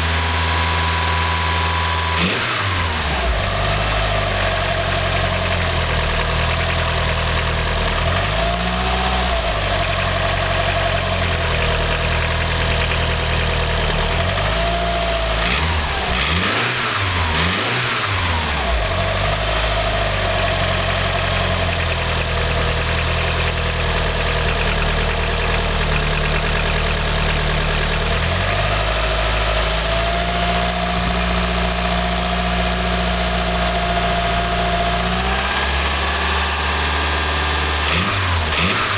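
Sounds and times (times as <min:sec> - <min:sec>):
engine idling and revving: 0:00.0 - 0:38.9
engine knocking noise: 0:00.0 - 0:38.9.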